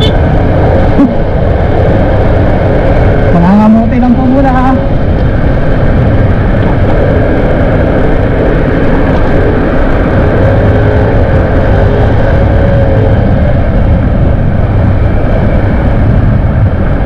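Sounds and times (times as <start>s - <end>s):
wind rush over microphone: 0.0s - 17.0s.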